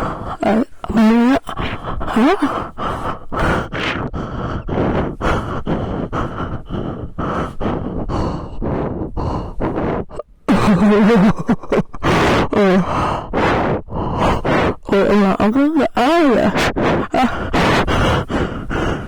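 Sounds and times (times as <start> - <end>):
person breathing heavily: 0.0 - 19.0.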